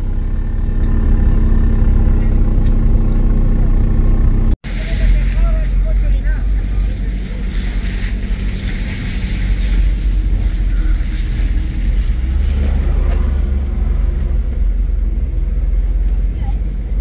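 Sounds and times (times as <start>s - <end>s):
deep rumble: 0.0s - 17.0s
low engine drone: 0.0s - 17.0s.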